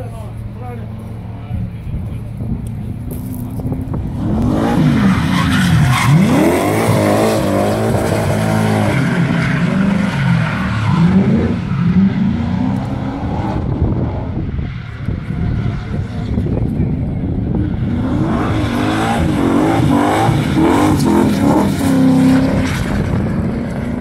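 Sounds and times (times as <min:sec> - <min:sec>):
car engine revving: 0:00.7 - 0:24.0.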